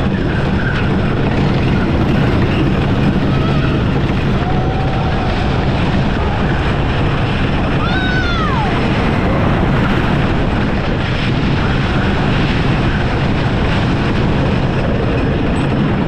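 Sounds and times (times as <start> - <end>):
roller coaster wheels rumbling: 0.0 - 16.0
wind noise on microphone: 0.0 - 16.0.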